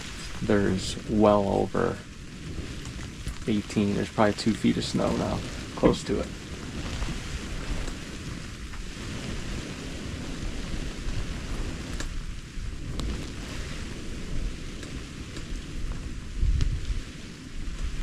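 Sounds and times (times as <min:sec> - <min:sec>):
low rumbling wind buffets: 0:00.0 - 0:18.0
storm wind with blowing snow: 0:00.0 - 0:18.0.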